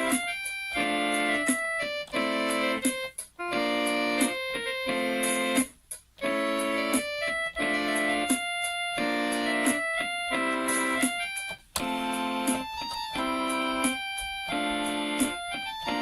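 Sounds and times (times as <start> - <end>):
mini keyboard melody over chords: 0.0 - 16.0.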